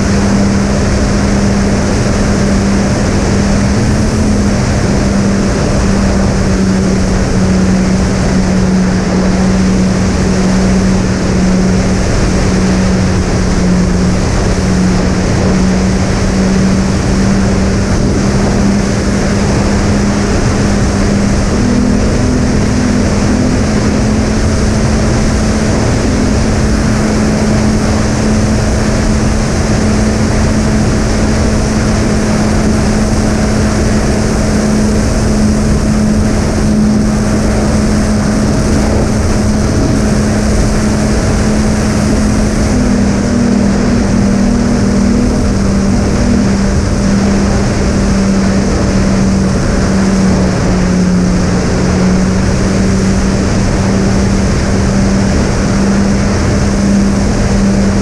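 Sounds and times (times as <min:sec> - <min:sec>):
electric motors droning: 0:00.0 - 0:58.0
wind rushing: 0:00.0 - 0:58.0.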